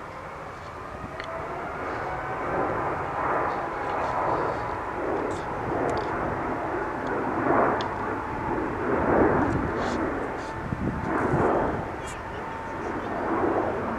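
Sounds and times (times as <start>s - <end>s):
jet engines roaring: 0.0s - 13.9s.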